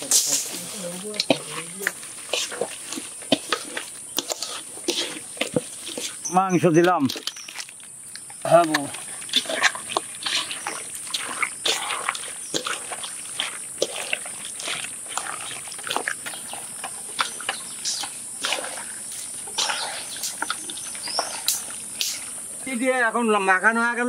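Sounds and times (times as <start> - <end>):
high insect drone: 0.0 - 24.0
wet squelches of kneading meat: 0.6 - 22.7.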